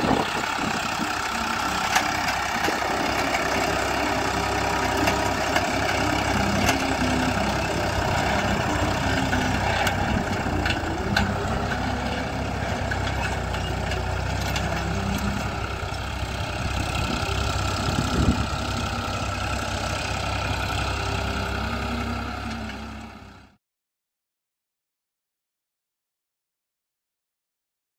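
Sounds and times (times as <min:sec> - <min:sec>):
tractor diesel engine running: 0:00.0 - 0:23.6.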